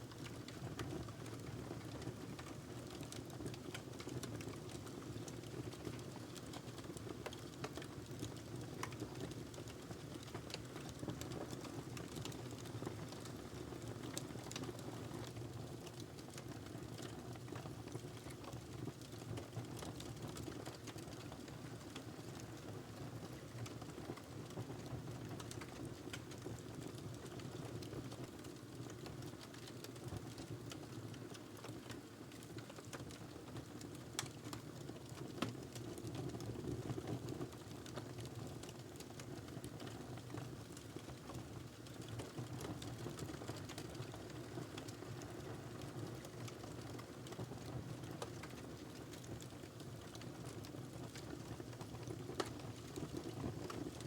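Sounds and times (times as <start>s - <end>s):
wood fire crackling: 0.2s - 22.5s, 25.3s - 30.0s, 31.8s - 36.0s, 37.6s - 54.0s.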